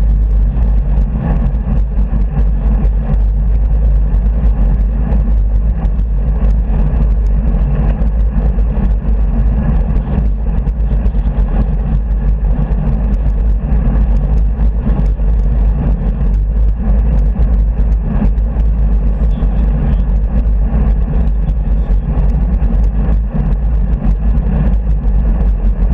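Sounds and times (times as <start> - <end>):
bicycle rattles: 0.0 - 25.9
road and traffic rumble: 0.0 - 25.9.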